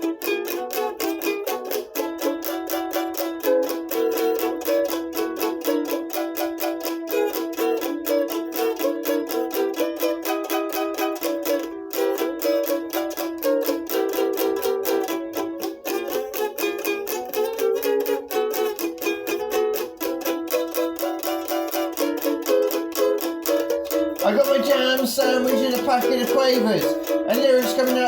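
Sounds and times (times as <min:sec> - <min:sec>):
plucked string instrument strumming: 0:00.0 - 0:28.0.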